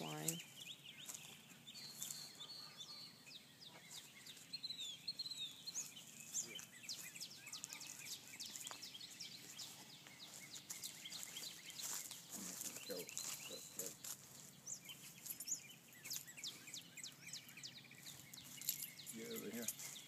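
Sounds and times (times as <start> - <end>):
birds chirping: 0.0 - 20.0
faint outdoor noise: 0.0 - 20.0.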